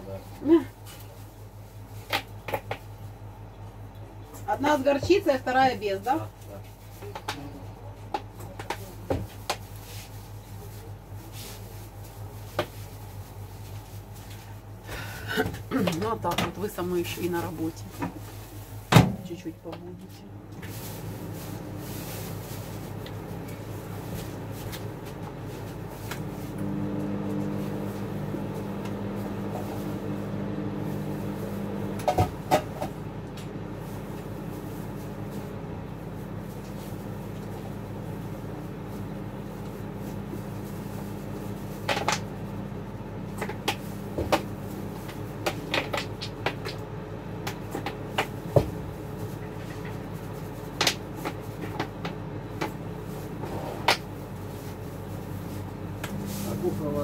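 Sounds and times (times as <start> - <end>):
steady appliance hum: 0.0 - 57.0.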